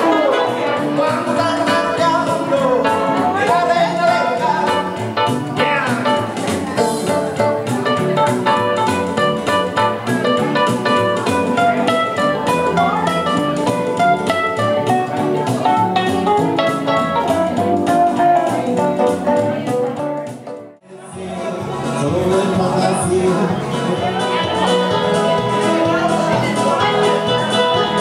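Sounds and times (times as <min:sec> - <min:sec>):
plucked guitar notes: 0:00.0 - 0:28.0
steady beat: 0:00.0 - 0:28.0.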